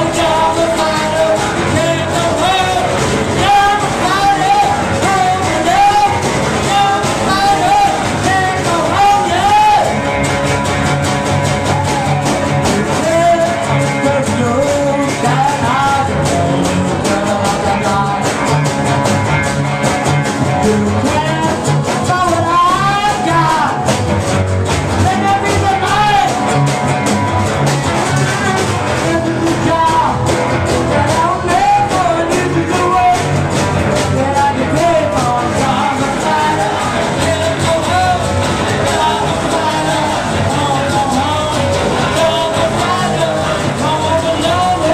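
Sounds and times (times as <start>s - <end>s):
man singing into microphone: 0.0s - 10.0s, 11.6s - 18.7s, 20.4s - 23.9s, 25.0s - 26.5s, 27.9s - 44.9s
drums: 0.0s - 44.9s
electric guitar: 0.0s - 44.9s
strummed acoustic guitar: 0.0s - 44.9s.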